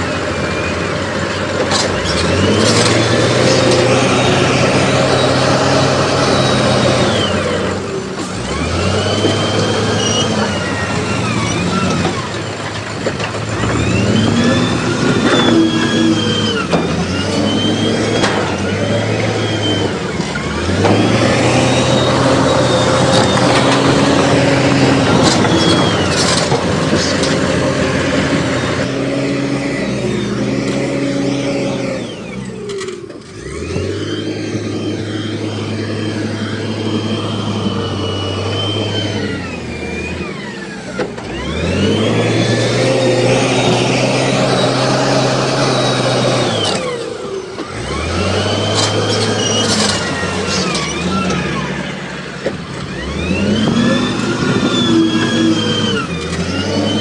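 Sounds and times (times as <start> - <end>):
heavy diesel engine revving: 0.0 - 57.0.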